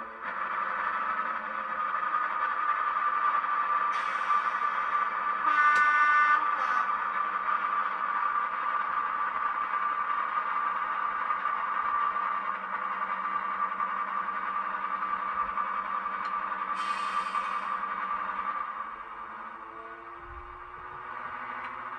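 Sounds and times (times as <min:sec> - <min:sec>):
model diesel engine drone: 0:00.0 - 0:21.9.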